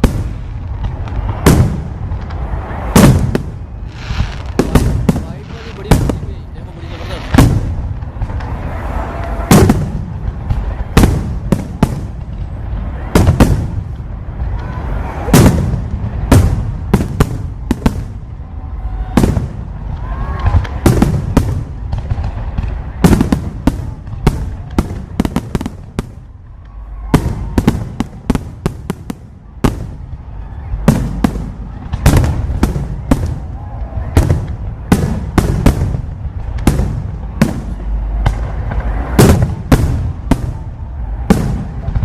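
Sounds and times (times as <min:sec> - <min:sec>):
fireworks bangs and booms: 0:00.0 - 0:42.0
low rumble of explosions: 0:00.0 - 0:42.0.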